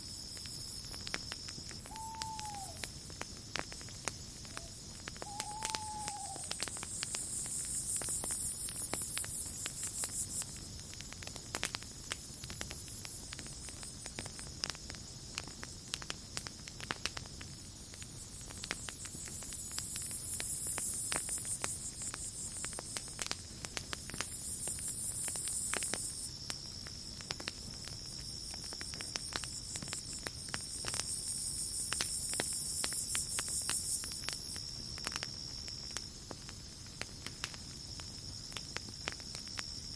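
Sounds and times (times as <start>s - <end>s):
campfire crackling and popping: 0.0s - 39.9s
cricket trill: 0.0s - 39.9s.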